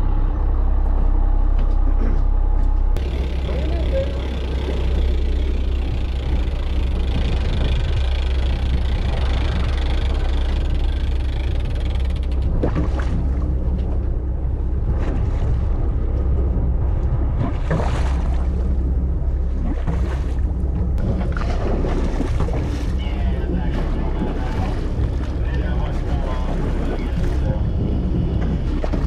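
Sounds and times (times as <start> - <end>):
boat engine droning: 0.0 - 29.0
wind and water hiss: 3.0 - 29.0.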